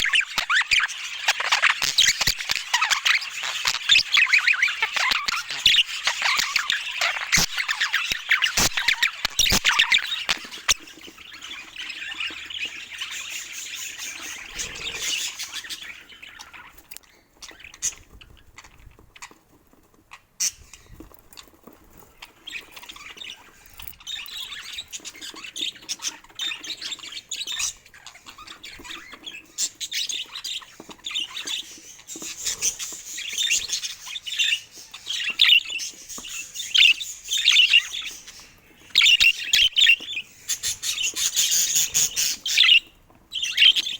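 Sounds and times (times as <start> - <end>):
budgerigars chirping: 0.0 - 19.4, 22.2 - 43.9.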